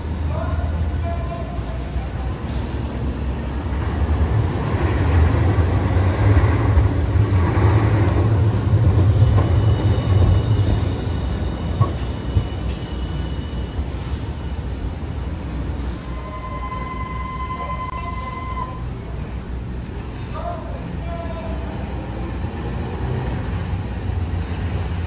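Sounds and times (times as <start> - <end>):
tram running rumble: 0.0 - 25.0
high wheel squeal: 1.1 - 25.0.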